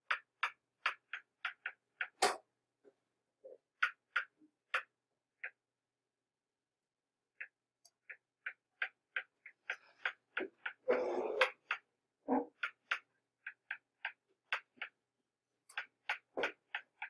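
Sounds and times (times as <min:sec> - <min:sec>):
stylus tapping on tablet screen: 0:00.0 - 0:02.6, 0:03.4 - 0:05.6, 0:07.3 - 0:17.0.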